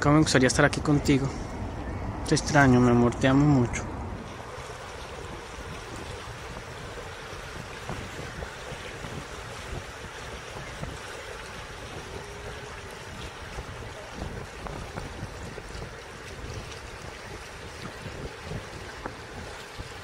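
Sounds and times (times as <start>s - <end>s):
waves lapping against rocks: 0.0s - 20.0s
wind buffeting microphone: 0.0s - 20.0s.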